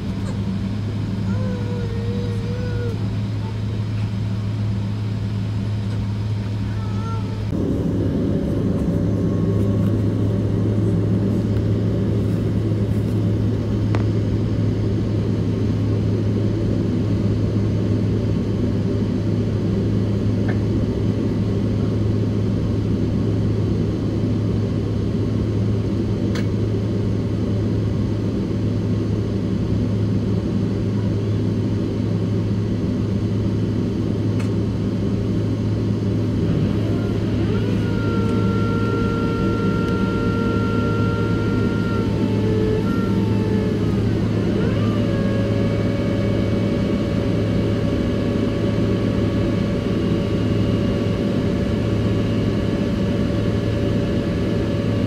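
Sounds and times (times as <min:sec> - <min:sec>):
aircraft cabin engine rumble: 0:00.0 - 0:55.0
multi-tone whine: 0:00.0 - 0:55.0.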